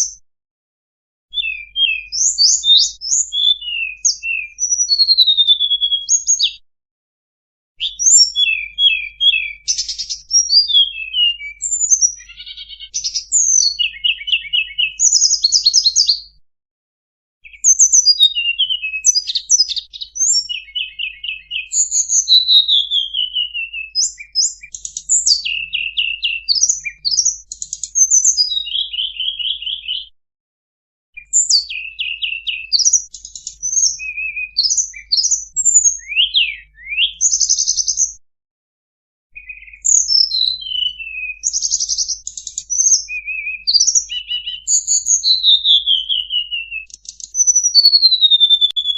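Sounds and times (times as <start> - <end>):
songbird singing: 0.0 - 0.2, 1.3 - 6.6, 7.8 - 16.4, 17.4 - 30.1, 31.2 - 38.2, 39.3 - 48.9.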